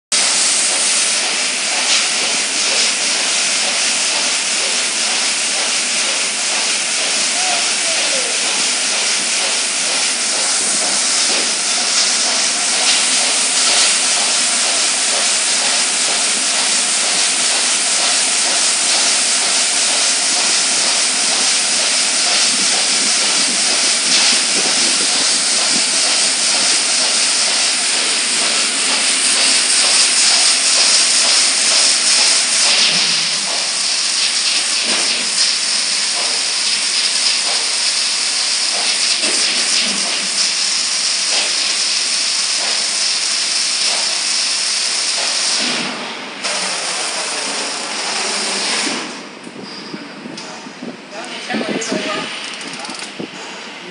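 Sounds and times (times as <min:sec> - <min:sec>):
tape slitting machine hissing: 0:00.1 - 0:49.7, 0:52.2 - 0:53.9.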